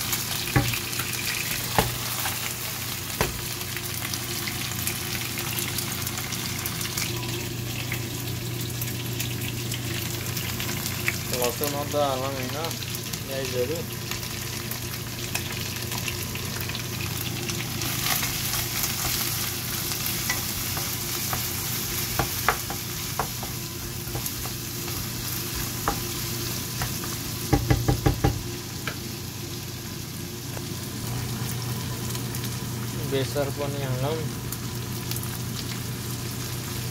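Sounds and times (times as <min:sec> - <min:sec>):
chicken sizzling in hot oil: 0:00.0 - 0:36.9.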